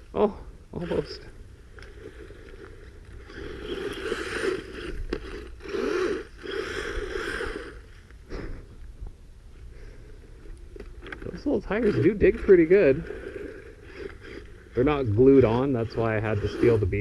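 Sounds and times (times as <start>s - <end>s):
electric motor whirring: 0.8s - 8.5s, 9.7s - 17.0s.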